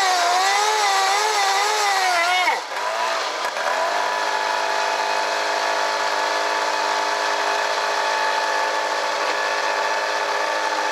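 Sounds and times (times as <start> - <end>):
pump engine running: 0.0 - 10.9.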